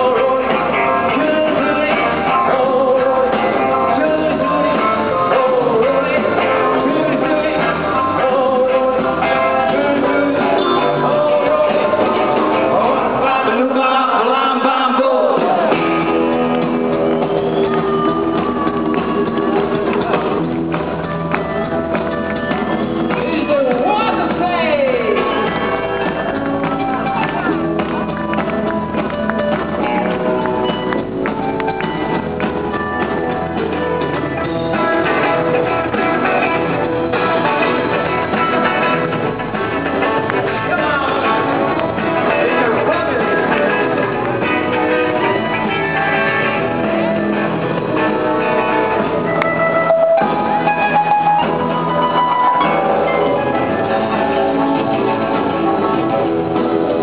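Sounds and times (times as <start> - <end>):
guitar: 0.0 - 57.0
live band playing: 0.0 - 57.0.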